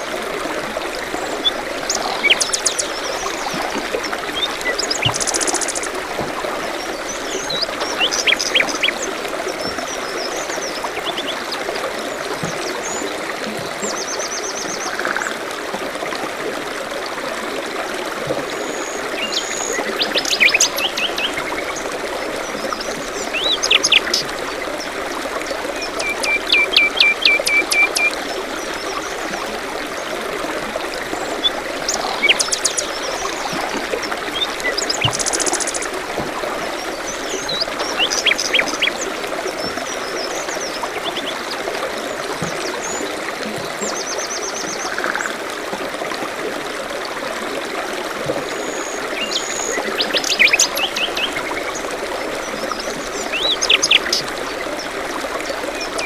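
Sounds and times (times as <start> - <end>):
stream running water: 0.0 - 56.0
songbirds calling: 1.0 - 15.3, 18.5 - 45.3, 48.5 - 56.0.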